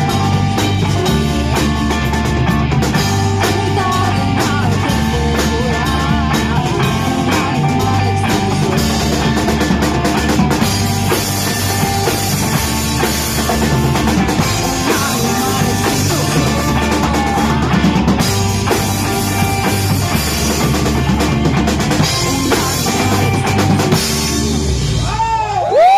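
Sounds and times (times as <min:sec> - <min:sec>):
drum kit: 0:00.0 - 0:25.9
rock band playing live: 0:00.0 - 0:25.9.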